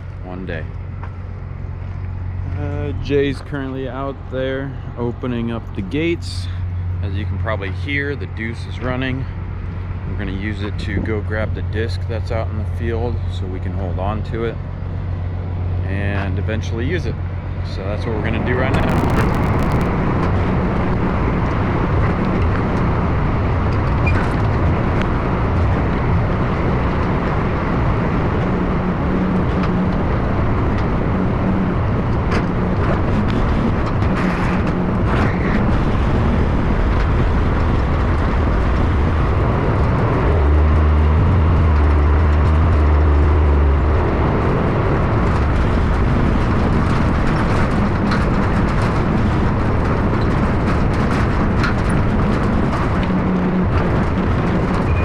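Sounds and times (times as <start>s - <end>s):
truck engine running: 0.0s - 10.6s, 14.0s - 55.0s.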